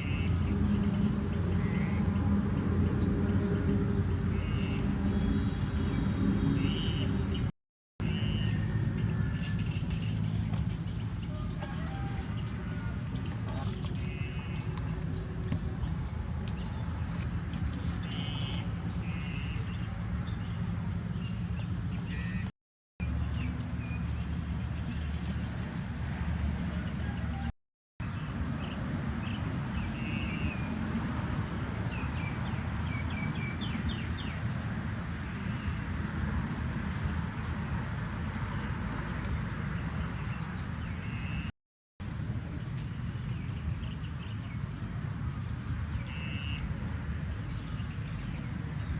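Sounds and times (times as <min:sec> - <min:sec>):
insect drone: 0:00.0 - 0:48.9.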